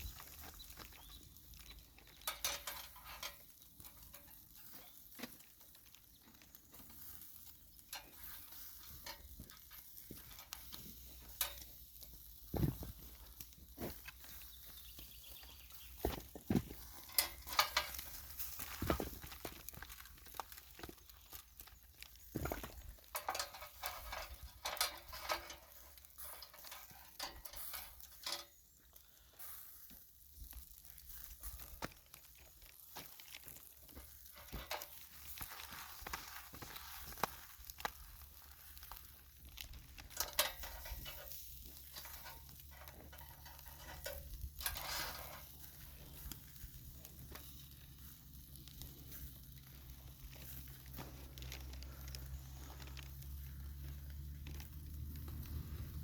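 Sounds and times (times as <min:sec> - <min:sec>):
crackles and pops: 0:00.0 - 0:56.0
skewers sizzling on grill: 0:00.0 - 0:56.0.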